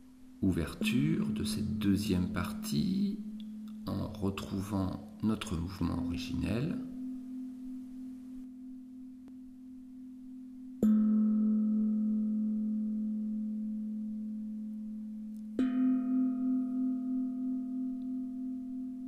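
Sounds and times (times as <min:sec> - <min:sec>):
singing bowls ringing: 0:00.6 - 0:04.9, 0:05.5 - 0:19.0.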